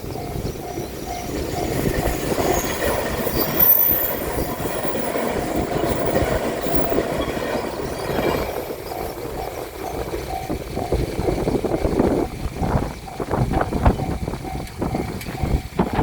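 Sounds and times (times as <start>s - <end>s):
crossing warning bell dinging: 0.0s - 16.0s
train wheels clattering on rails: 0.0s - 16.0s.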